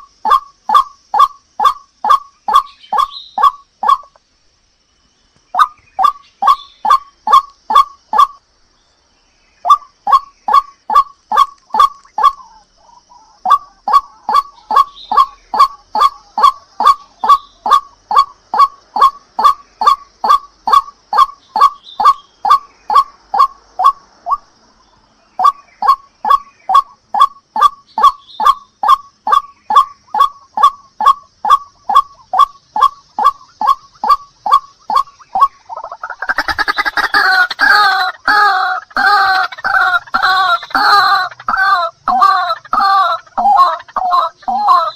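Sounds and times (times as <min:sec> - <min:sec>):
bird croaking call: 0:00.0 - 0:04.2, 0:05.5 - 0:08.4, 0:09.6 - 0:44.9.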